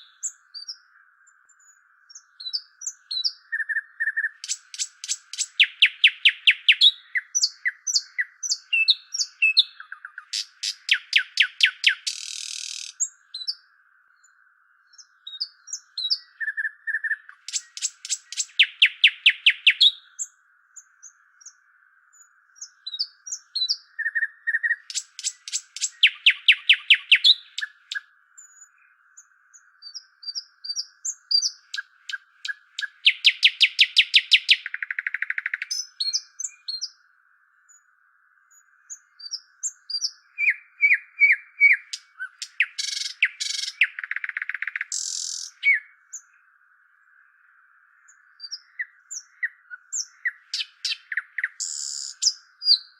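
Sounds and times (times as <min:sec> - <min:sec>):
songbirds trilling and chirping: 0:00.0 - 0:52.9.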